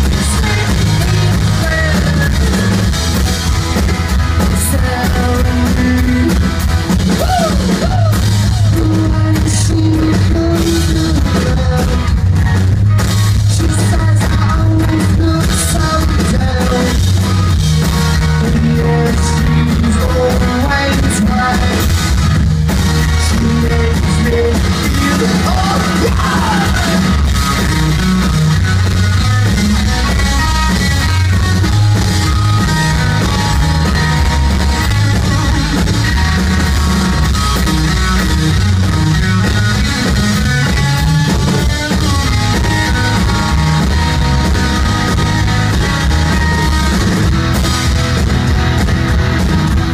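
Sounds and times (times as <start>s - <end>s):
bass guitar: 0.0s - 49.9s
drum kit: 0.0s - 49.9s
electric guitar: 0.0s - 49.9s.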